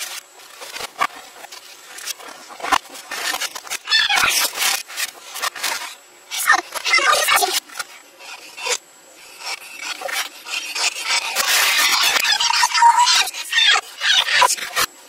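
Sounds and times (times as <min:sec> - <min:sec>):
reversed screaming and keyboard pounding: 0:00.6 - 0:14.9.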